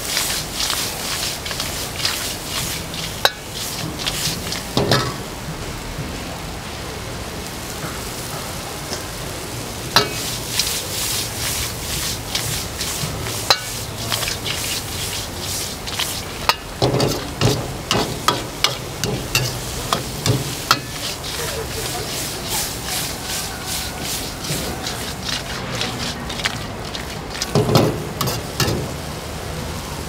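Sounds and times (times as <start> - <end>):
metal ladle scraping a wok: 0.0 - 5.3, 10.0 - 28.9
shrimp sizzling in a wok: 0.0 - 5.8, 7.4 - 30.0.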